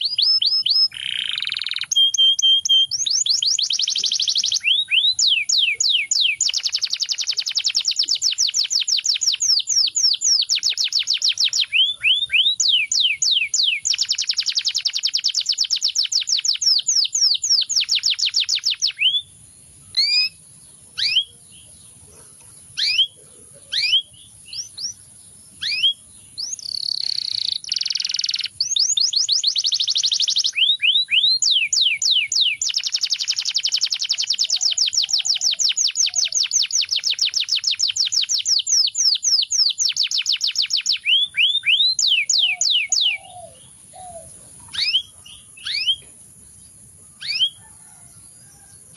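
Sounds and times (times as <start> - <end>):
canary trilling: 0.0 - 19.3, 19.9 - 20.4, 21.0 - 25.0, 25.6 - 46.1, 47.1 - 48.0
canary chirping: 0.0 - 46.1, 47.1 - 47.7.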